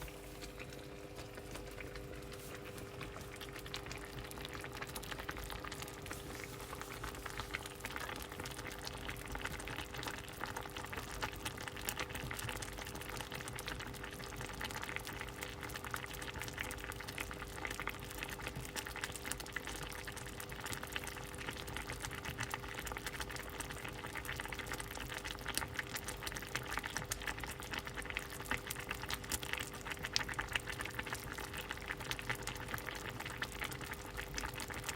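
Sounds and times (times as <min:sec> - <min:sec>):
soup bubbles popping: 0:00.0 - 0:34.9.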